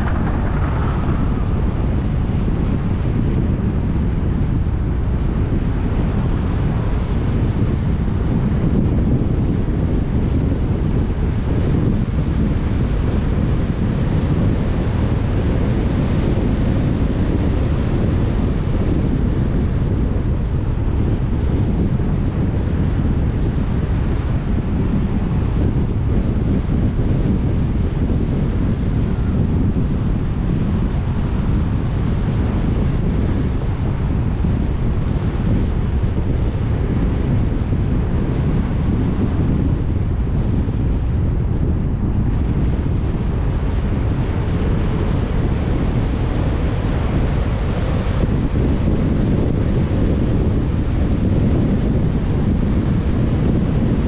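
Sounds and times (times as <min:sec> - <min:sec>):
car road and wind noise: 0:00.0 - 0:54.0
wind rumbling on microphone: 0:00.0 - 0:54.0.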